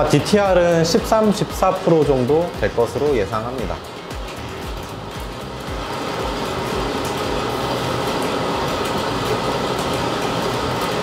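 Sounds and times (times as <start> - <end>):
coffee roaster whirring: 0.0 - 11.0.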